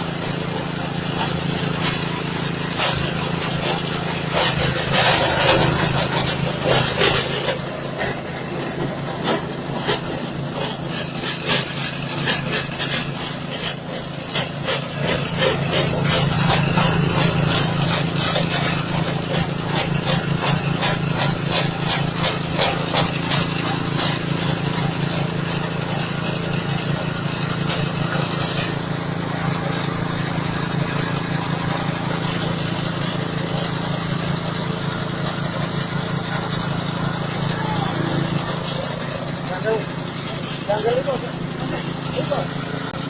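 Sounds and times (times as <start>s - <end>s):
straw chopper engine humming: 0.0s - 43.0s
rasping crackle of material cutting: 0.5s - 43.0s.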